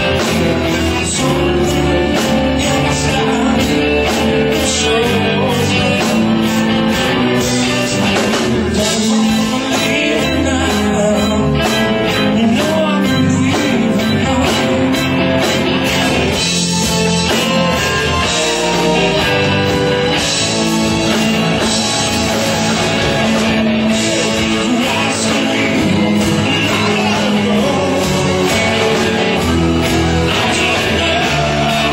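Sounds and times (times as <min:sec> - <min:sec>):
drums: 0:00.0 - 0:31.9
electric guitar: 0:00.0 - 0:31.9
person singing: 0:00.0 - 0:31.9.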